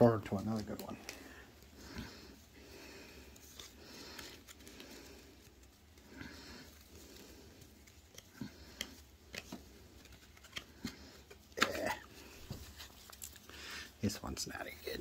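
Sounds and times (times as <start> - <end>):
trading cards rustling: 0.0 - 15.0.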